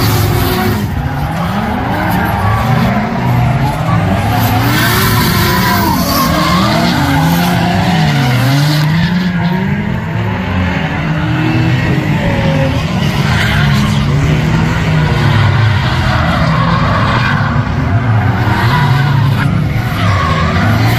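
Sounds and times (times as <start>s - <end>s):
car engines revving: 0.0s - 20.9s
tyres skidding and squealing: 0.0s - 20.9s.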